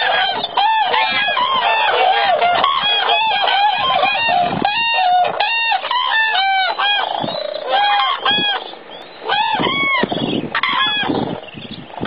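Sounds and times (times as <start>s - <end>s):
cranes calling: 0.0s - 12.0s.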